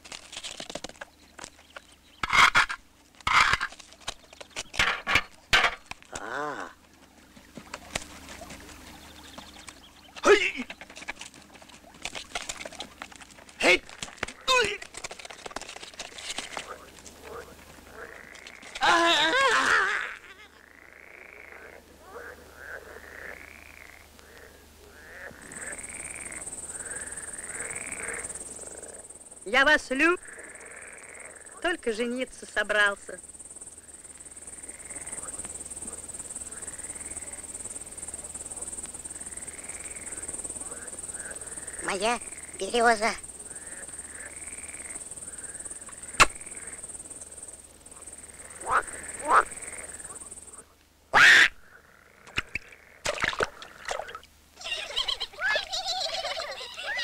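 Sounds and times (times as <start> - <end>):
high insect trill: 0.0 - 57.0
frog-like croaking: 2.2 - 3.7, 4.8 - 6.8, 12.1 - 57.0.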